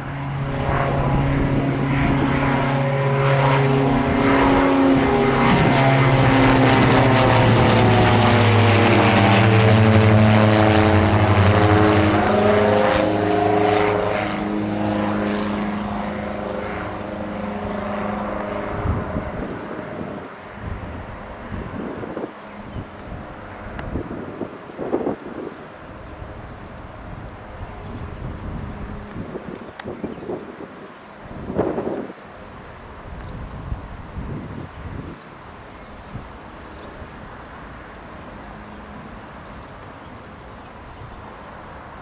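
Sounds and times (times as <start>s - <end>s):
propeller plane flying overhead: 0.0s - 42.0s.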